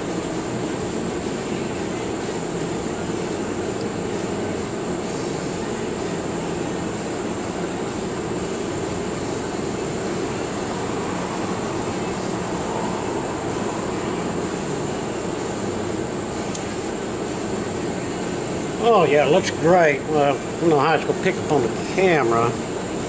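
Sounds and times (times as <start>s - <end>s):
faint high whine: 0.0s - 23.0s
steady machine drone: 0.0s - 23.0s.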